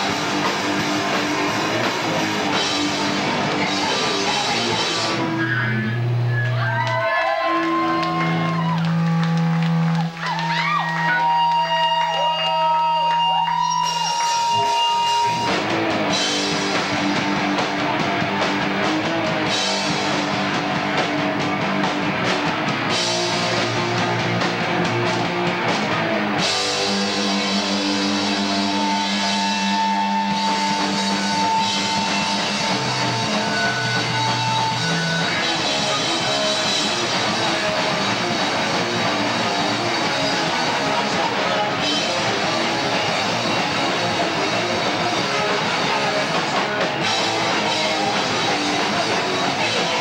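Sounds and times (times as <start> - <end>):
live rock band: 0.0 - 50.0.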